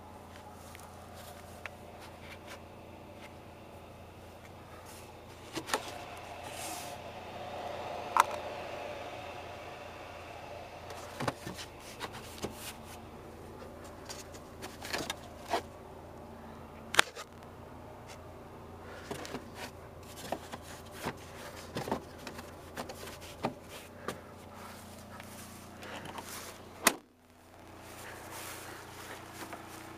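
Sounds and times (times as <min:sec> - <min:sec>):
faint steady hum: 0:00.0 - 0:29.9.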